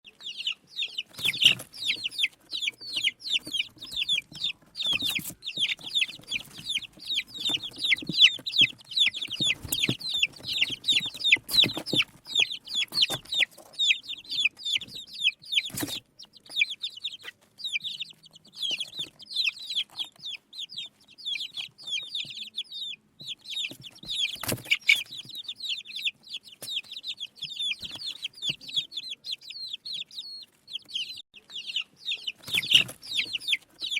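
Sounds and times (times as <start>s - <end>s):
baby chicks peeping: 0.0s - 33.9s.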